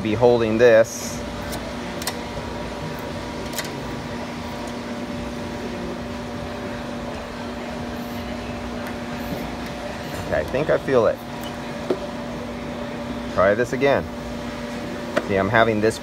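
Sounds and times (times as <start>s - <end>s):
fan motor humming: 0.0s - 16.0s.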